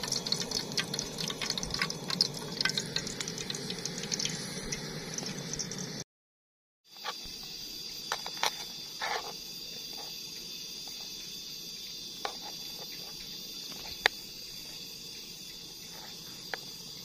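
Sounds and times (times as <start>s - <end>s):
high-pitched insect drone: 0.0s - 6.0s, 6.9s - 17.0s.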